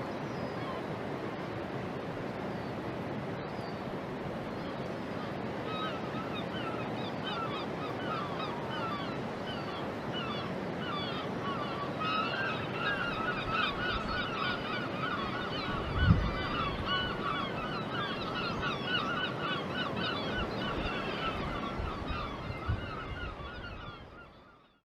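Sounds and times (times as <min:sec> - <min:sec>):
flock of birds calling: 0:04.6 - 0:24.8.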